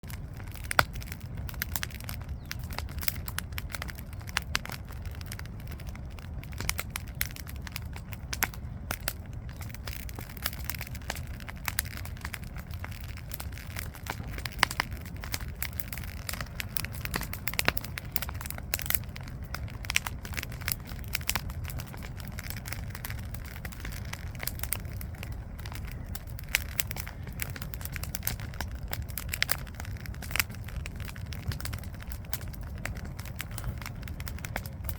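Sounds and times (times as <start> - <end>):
campfire crackling and popping: 0.0 - 34.9
low rumble: 0.0 - 34.9.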